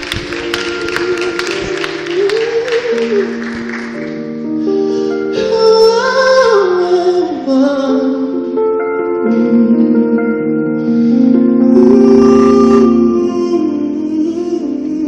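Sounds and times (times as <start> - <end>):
keyboard chords: 0.0 - 15.0
person singing a ballad: 0.0 - 15.0.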